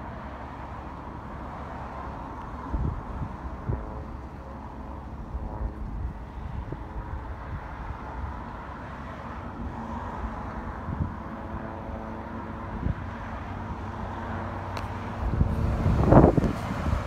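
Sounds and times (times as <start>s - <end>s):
wind buffeting microphone: 2.5s - 8.6s, 9.4s - 17.0s.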